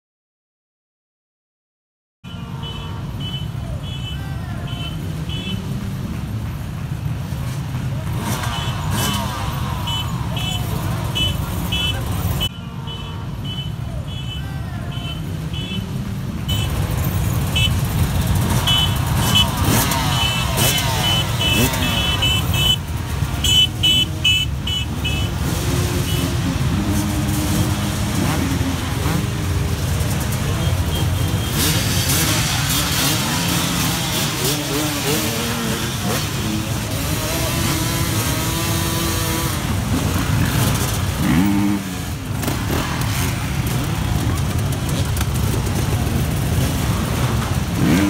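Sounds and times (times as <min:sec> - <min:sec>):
dirt bike engines rumbling: 0:02.3 - 0:48.0.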